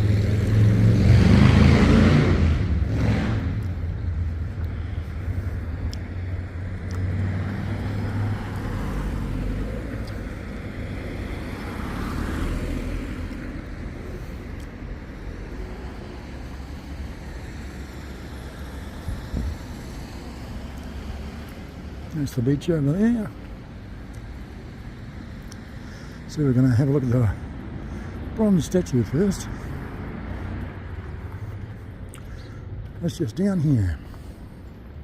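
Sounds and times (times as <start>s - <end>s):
background traffic hum: 0.0s - 35.0s
vehicle engine rumble: 0.0s - 35.0s
vehicle passing: 0.0s - 35.0s.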